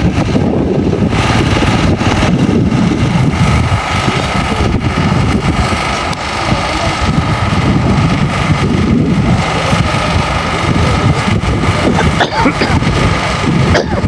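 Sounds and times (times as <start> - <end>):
engine idling hum: 0.0 - 14.0
wind buffeting microphone: 0.0 - 14.0.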